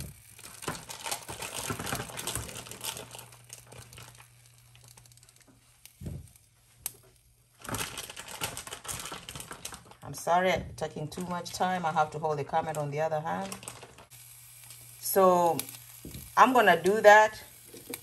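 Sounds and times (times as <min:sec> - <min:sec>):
plastic packaging crinkling: 0:00.0 - 0:10.1, 0:12.6 - 0:18.0.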